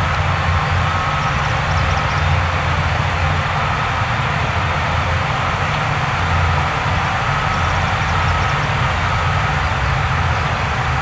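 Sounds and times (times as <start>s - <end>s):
heavy diesel machinery drone: 0.0s - 11.0s.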